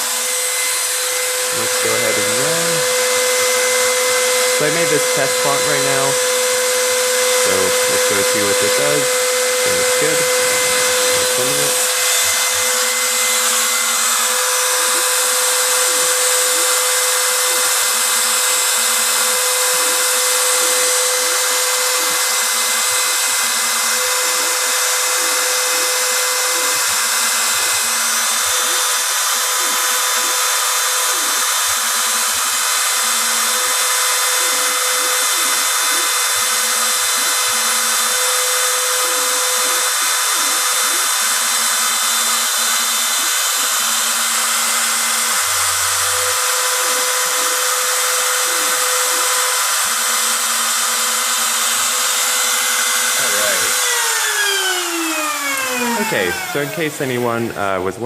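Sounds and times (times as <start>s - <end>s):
router spindle whine: 0.0s - 58.0s.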